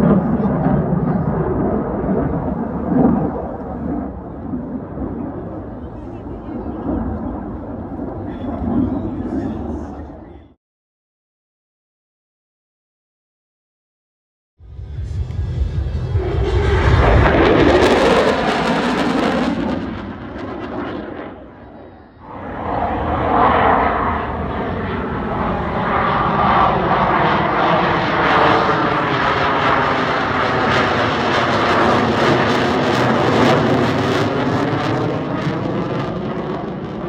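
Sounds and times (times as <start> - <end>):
jet flying past: 0.0 - 10.6, 14.6 - 37.0.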